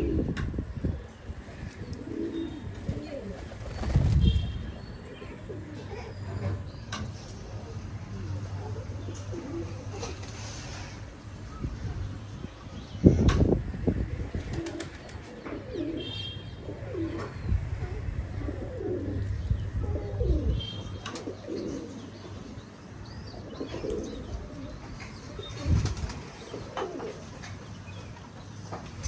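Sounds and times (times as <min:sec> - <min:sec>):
pigeons cooing: 0:00.0 - 0:12.0, 0:12.8 - 0:28.4.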